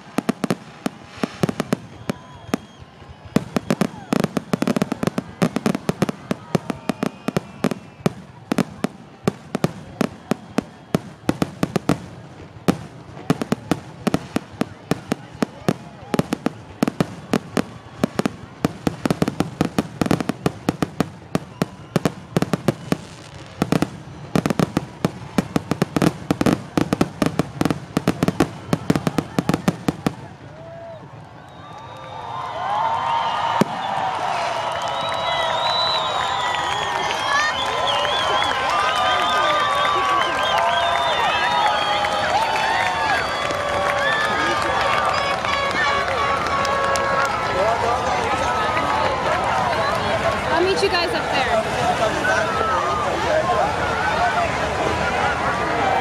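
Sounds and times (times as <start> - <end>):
fireworks bursting: 0.0 - 53.1.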